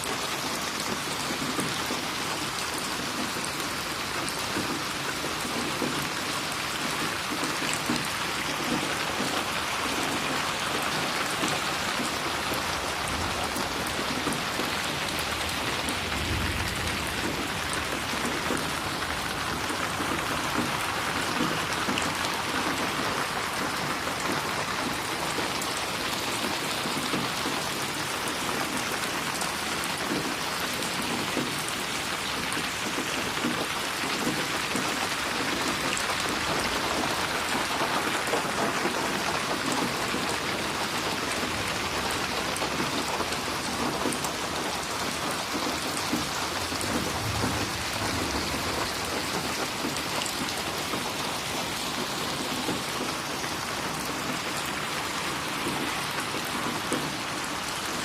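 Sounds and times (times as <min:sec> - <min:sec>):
rain splashing on a surface: 0:00.0 - 0:58.0.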